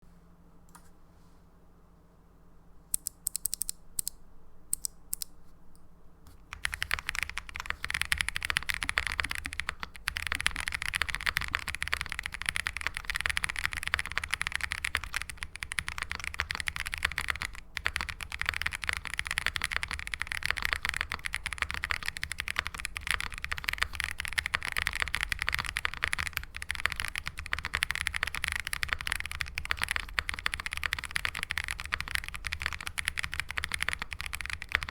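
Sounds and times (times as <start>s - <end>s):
mechanical keyboard typing: 3.0s - 4.1s, 6.5s - 34.9s.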